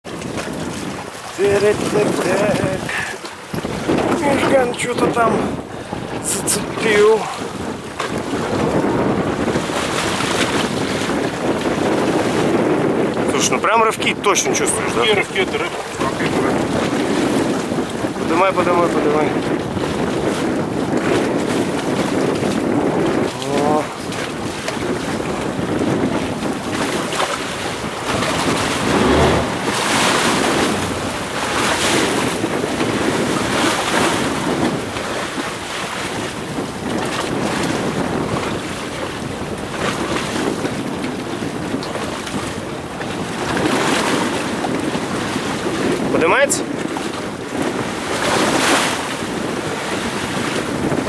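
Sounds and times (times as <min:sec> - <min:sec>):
waves washing against a boat: 0:00.0 - 0:51.0
wind buffeting the microphone: 0:00.0 - 0:51.0.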